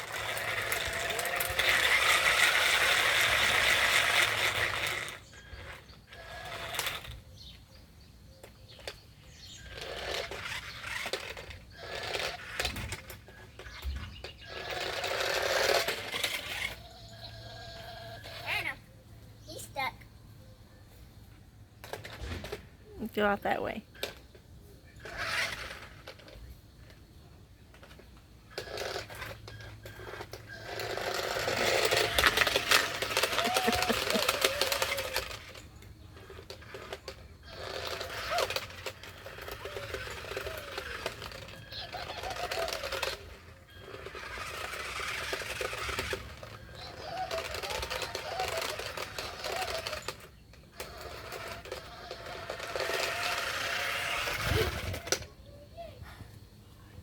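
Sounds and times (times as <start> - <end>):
toy electric motors rattling: 0.0 - 18.8, 21.8 - 56.0.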